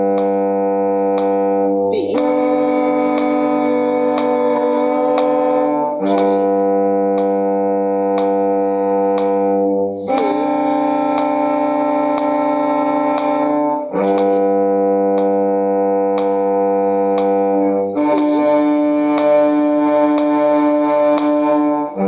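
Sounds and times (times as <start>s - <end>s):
bowed string instrument long notes: 0.0s - 22.0s.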